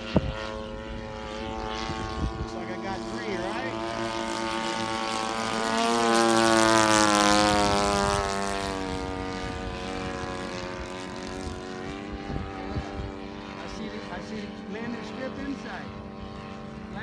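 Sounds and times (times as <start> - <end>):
model plane propeller drone: 0.0 - 17.0.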